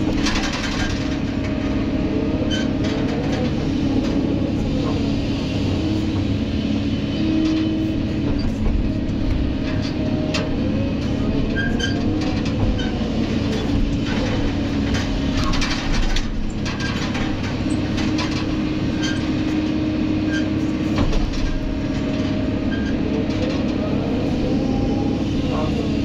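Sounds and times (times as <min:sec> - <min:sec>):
diesel engine running under load: 0:00.0 - 0:26.0.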